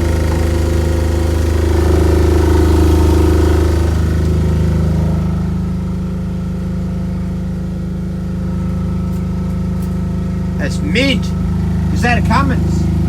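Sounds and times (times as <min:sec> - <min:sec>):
diesel generator humming: 0:00.0 - 0:13.0.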